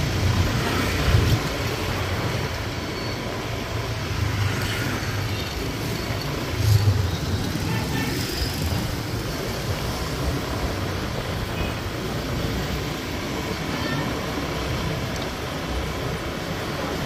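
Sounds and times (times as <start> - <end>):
scooter engine: 0.0 - 17.0.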